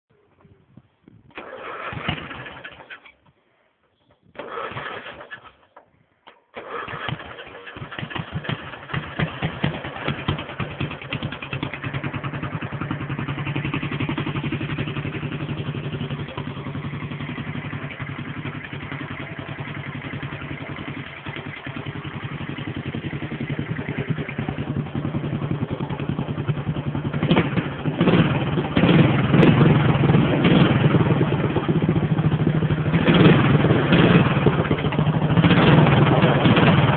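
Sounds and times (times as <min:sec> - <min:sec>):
lawnmower engine running: 0:01.3 - 0:03.2, 0:04.4 - 0:05.8, 0:06.6 - 0:36.9.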